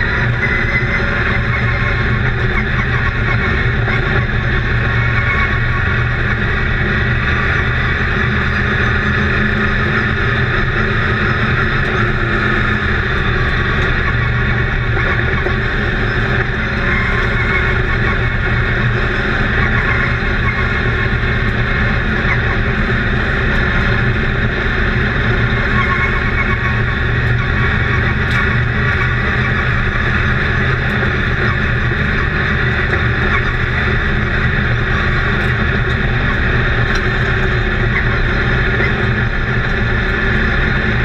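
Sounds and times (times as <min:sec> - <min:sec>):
truck engine running hard: 0:00.0 - 0:41.0.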